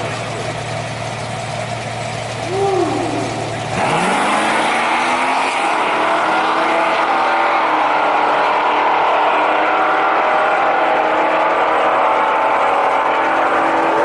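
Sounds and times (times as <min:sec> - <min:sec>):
drag racing car engine accelerating: 0:00.0 - 0:14.0.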